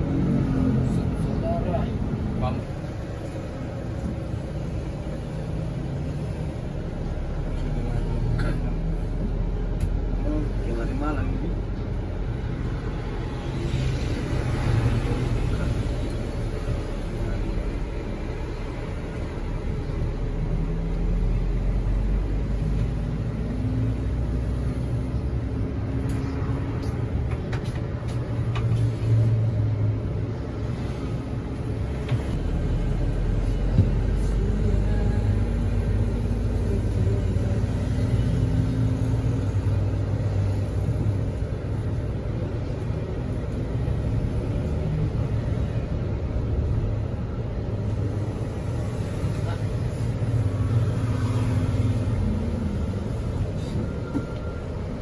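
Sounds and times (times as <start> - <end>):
bus diesel engine rumble: 0.0 - 55.0
road noise: 0.0 - 55.0.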